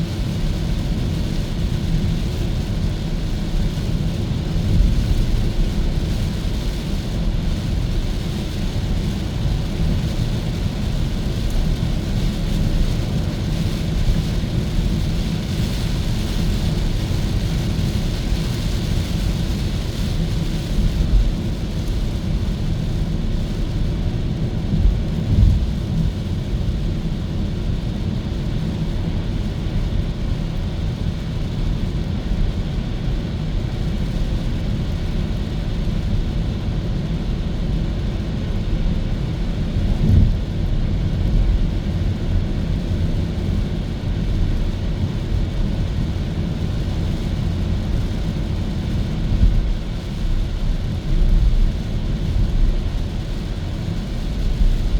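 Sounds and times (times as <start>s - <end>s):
road and tyre noise: 0.0s - 54.9s.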